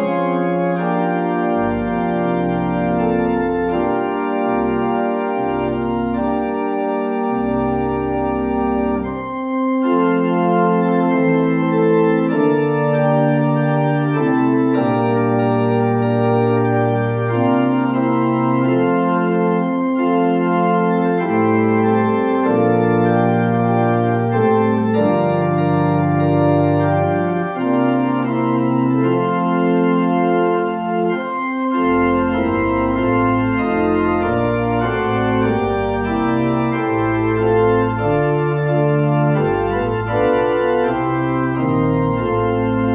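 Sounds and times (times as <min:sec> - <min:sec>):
organ playing slow chords: 0:00.0 - 0:42.9.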